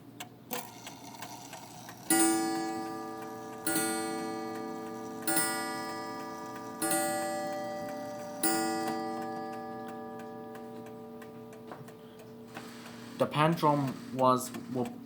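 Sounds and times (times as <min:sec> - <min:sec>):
clock striking: 0:00.6 - 0:15.0.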